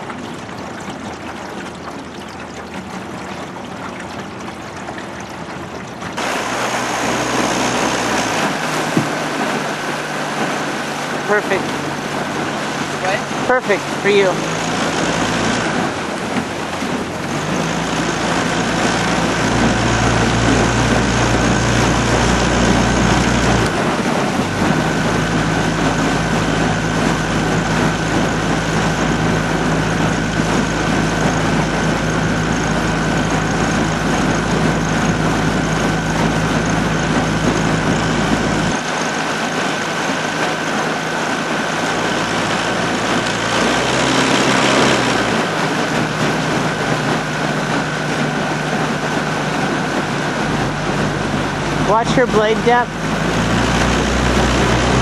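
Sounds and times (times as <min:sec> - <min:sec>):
outboard motor humming: 0:00.0 - 0:55.0
thin steady whine: 0:06.2 - 0:16.1, 0:17.5 - 0:55.0.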